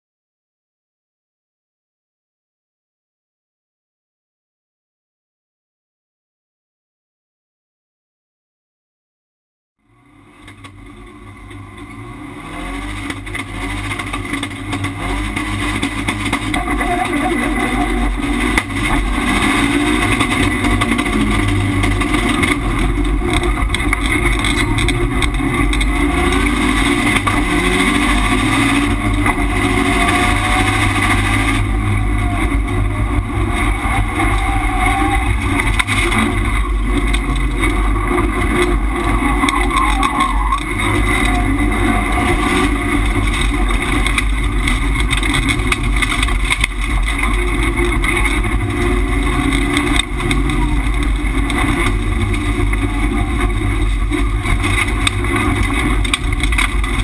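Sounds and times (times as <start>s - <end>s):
race car engine revving: 9.9s - 57.0s.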